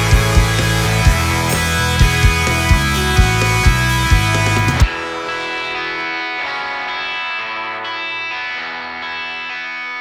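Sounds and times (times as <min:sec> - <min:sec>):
instrumental music with sustained chords: 0:00.0 - 0:10.0.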